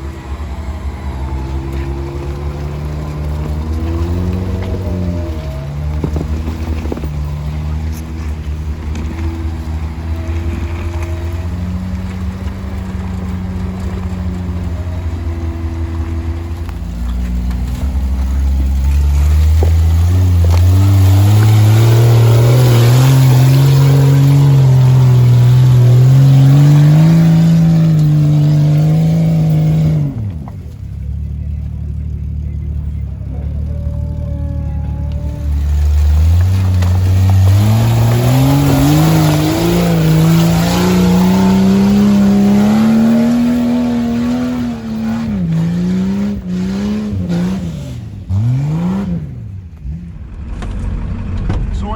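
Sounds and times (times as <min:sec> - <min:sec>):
truck engine revving: 0:00.0 - 0:51.9.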